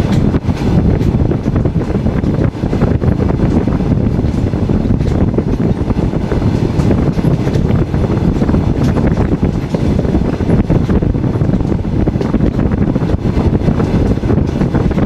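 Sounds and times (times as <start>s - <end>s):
moving train rumble: 0.0s - 15.0s
wind buffeting microphone: 0.0s - 15.0s.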